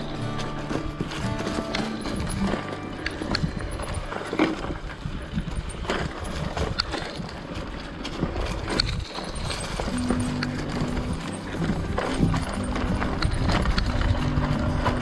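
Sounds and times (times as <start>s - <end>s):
bike knocking and rattling: 0.0s - 15.0s
bike tyres rolling over dirt: 0.0s - 15.0s.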